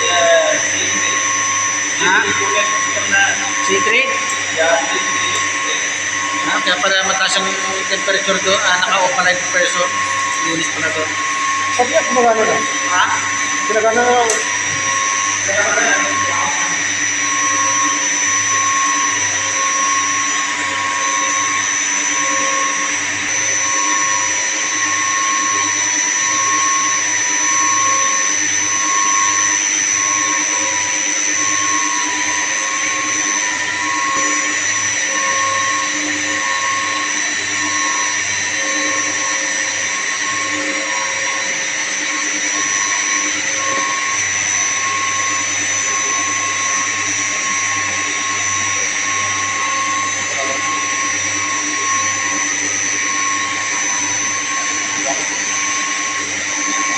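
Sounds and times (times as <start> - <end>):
high machine whine: 0.0 - 56.9
pulsing tone: 0.0 - 56.9
pump and chiller machinery: 0.0 - 56.9.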